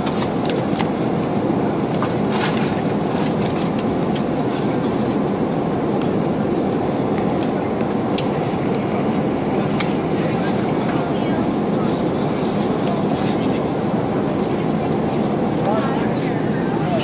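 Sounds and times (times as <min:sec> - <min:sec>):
aircraft cabin engine rush: 0:00.0 - 0:17.0.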